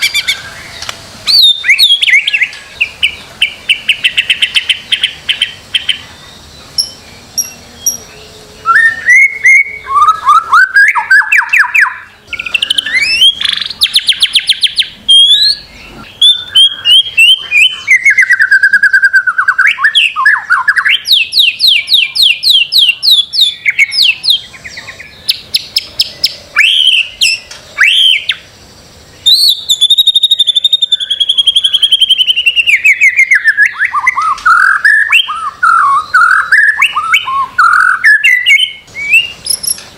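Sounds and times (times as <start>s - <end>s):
songbird singing trills and whistles: 0.0s - 39.9s.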